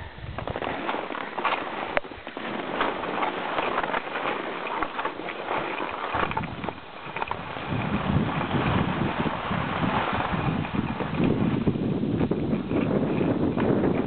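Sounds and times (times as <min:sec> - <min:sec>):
skis scraping over snow: 0:00.0 - 0:14.0
wind rumbling on microphone: 0:00.0 - 0:14.0.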